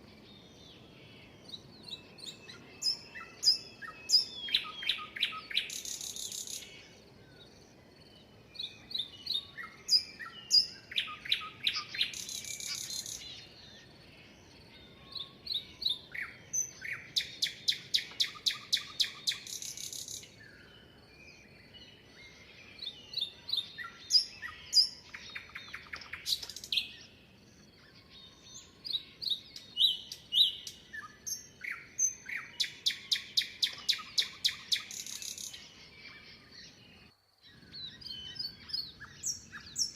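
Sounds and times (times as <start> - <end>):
songbird singing with trills: 0.0 - 39.9.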